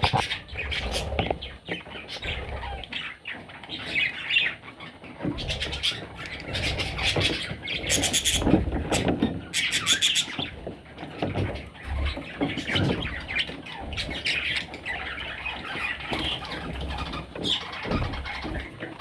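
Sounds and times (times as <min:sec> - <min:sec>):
budgerigar chicks squawking: 0:00.0 - 0:19.0.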